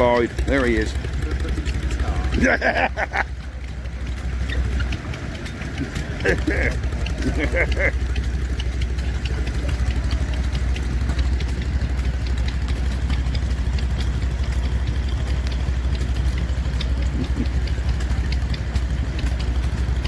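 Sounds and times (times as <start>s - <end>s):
light ticking: 0.0s - 20.0s
stationary engine thrumming: 0.0s - 20.0s.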